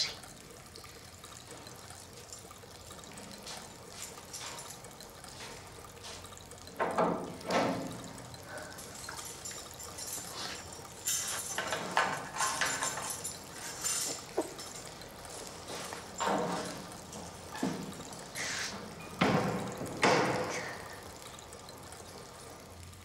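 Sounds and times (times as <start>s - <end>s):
water dripping and trickling: 0.0s - 23.0s
water splashing in a washbasin: 0.0s - 23.0s.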